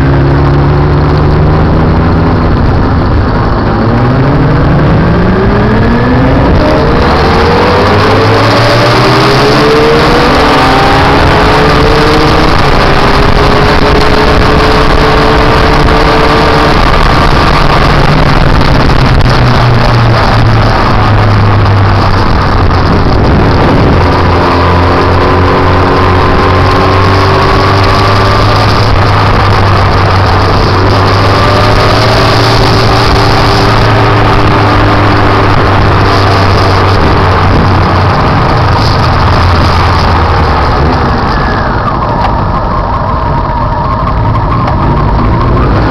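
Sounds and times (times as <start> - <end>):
motorcycle engine running: 0.0 - 45.9
steady rush of noise: 0.0 - 45.9.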